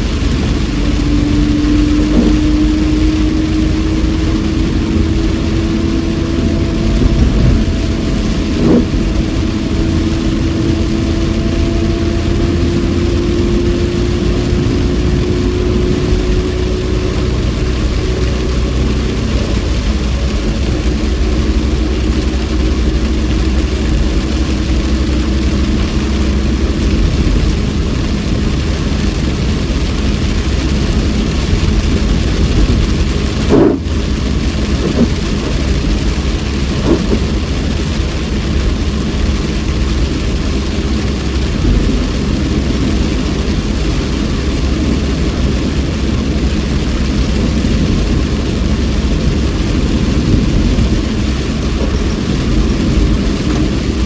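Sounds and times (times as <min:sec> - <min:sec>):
car engine running: 0:00.0 - 0:54.0
tyres hissing on wet road: 0:00.0 - 0:54.0.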